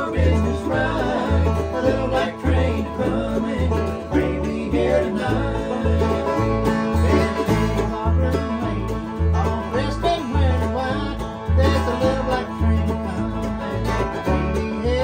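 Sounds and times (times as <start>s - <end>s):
acoustic guitar picking: 0.0s - 15.0s
banjo picking: 0.0s - 15.0s
mandolin: 0.0s - 15.0s
upright bass: 0.0s - 15.0s.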